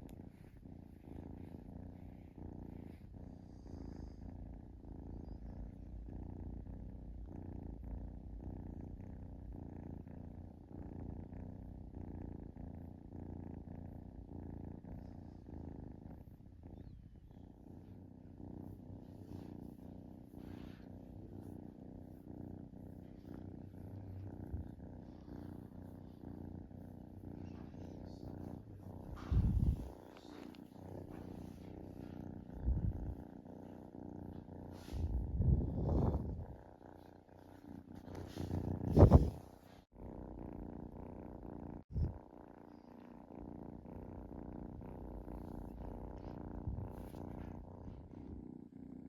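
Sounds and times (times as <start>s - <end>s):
kitten purring: 0.0s - 49.0s.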